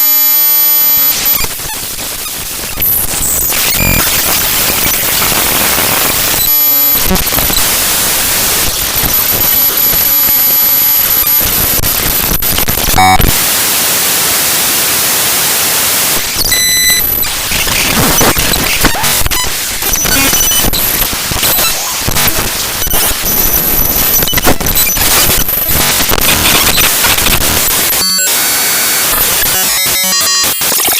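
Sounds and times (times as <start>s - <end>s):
buzzing tones: 0.0s - 13.5s, 16.1s - 30.9s
dense crackling clicks: 0.0s - 13.6s, 16.0s - 28.0s
harsh digital noise and static: 0.0s - 30.9s.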